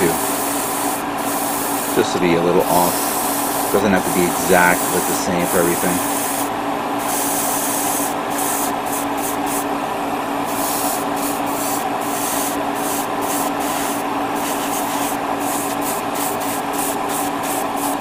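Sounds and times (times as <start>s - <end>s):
airbrush spraying hiss: 0.0s - 9.6s, 10.5s - 18.0s
steady motor hum: 0.0s - 18.0s.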